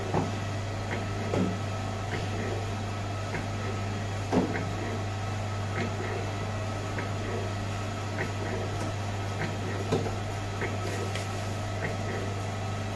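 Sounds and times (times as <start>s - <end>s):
dough sheeter motor hum: 0.0s - 12.9s.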